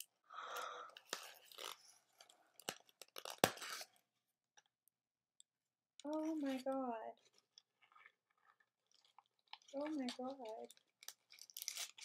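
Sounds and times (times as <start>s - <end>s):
packaging crackling and crunching: 0.0s - 4.0s, 6.1s - 12.0s.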